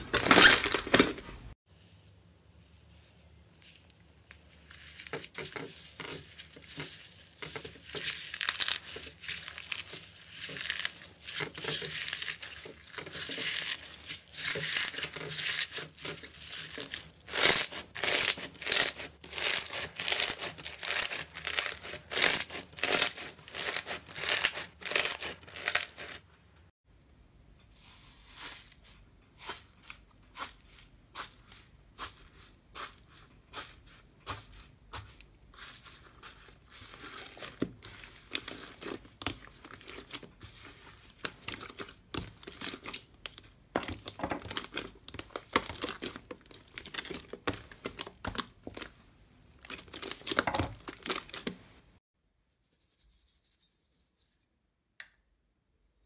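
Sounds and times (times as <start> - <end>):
slime crackling and squishing: 3.5 - 26.2, 29.4 - 51.7.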